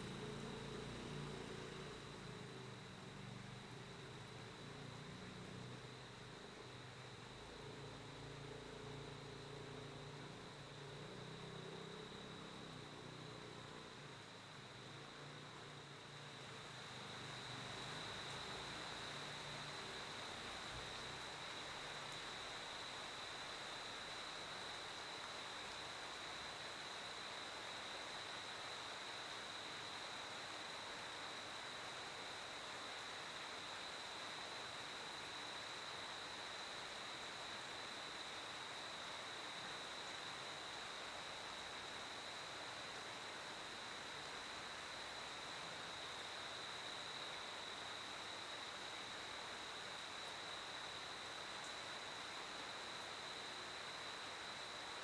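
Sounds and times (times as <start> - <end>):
constant hiss: 0.0 - 55.0.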